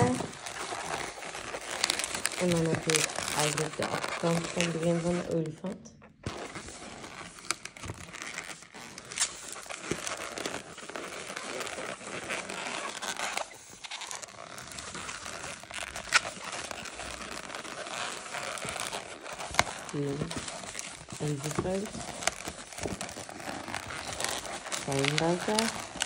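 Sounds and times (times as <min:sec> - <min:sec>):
balloon rubbing and crinkling: 0:00.0 - 0:26.0.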